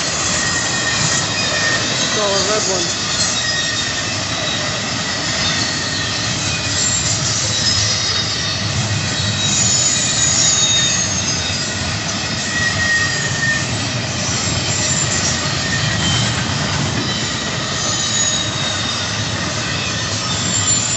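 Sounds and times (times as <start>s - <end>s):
freight train wheels rumbling: 0.0s - 20.9s
high thin wheel squeals: 0.0s - 20.9s.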